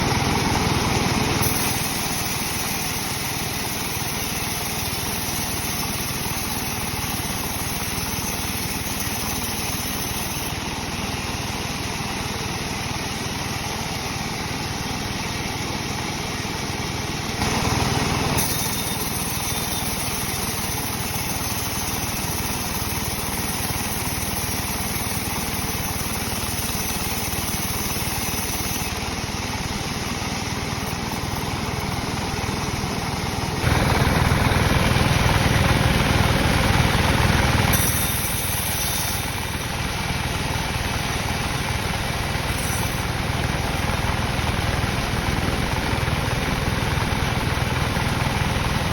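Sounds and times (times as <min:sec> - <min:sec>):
sawmill machinery drone: 0:00.0 - 0:48.9.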